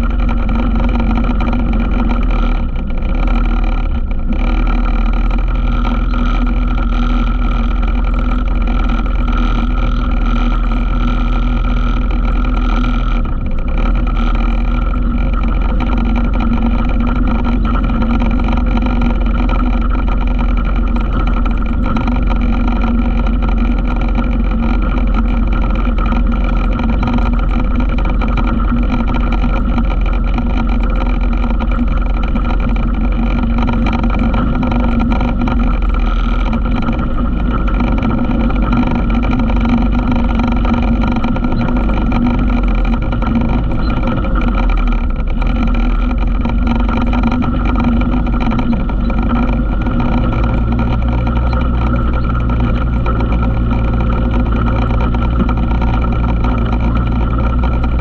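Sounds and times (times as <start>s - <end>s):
atv engine running: 0.0s - 58.0s
road rumble: 0.0s - 58.0s.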